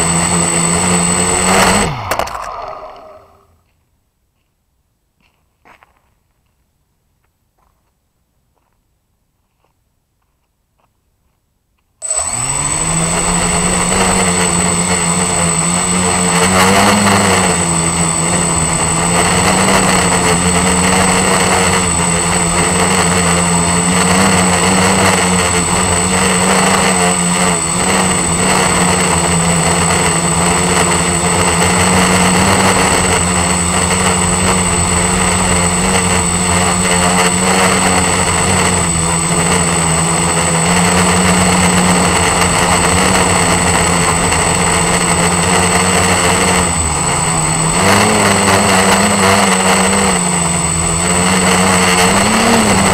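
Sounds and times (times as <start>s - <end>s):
drone propellers droning: 0.0s - 3.5s, 12.0s - 52.9s
high motor whine: 0.0s - 3.6s, 12.0s - 52.9s.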